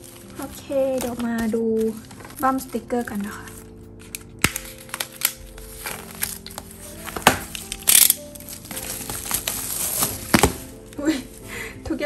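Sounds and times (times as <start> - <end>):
plastic tearing crackle: 0.0 - 11.4
plastic wrap crinkling: 0.0 - 11.6
soft background music: 0.0 - 12.0.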